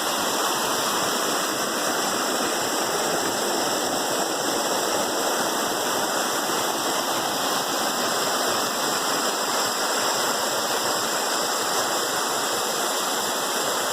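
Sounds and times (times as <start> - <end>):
waterfall rushing over rocks: 0.0 - 13.9.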